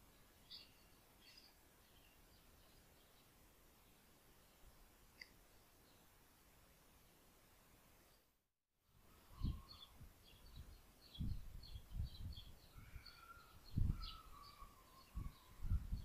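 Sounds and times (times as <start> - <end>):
small birds chirping: 0.0 - 7.4, 9.1 - 16.0.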